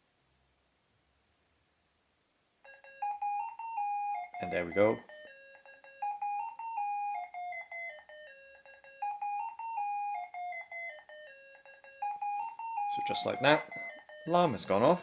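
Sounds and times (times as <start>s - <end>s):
electronic alarm clock melody: 2.6s - 15.0s.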